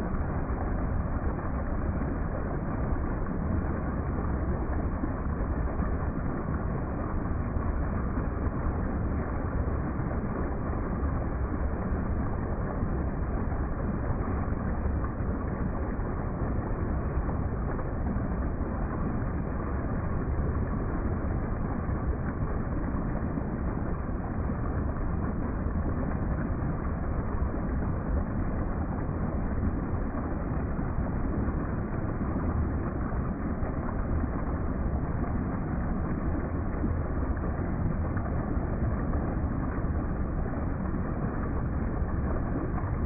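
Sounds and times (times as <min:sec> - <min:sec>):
deep water rumble: 0:00.0 - 0:43.0.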